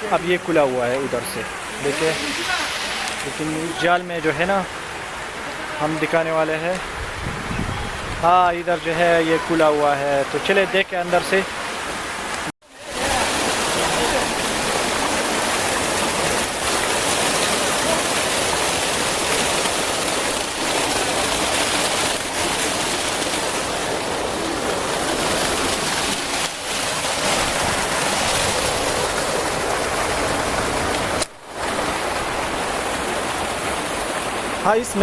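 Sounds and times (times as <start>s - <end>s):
running water rushing: 0.0s - 35.0s.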